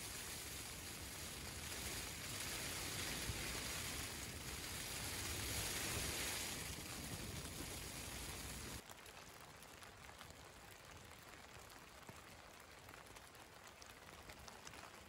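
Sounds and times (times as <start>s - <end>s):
rain pattering on tent: 0.0s - 15.0s.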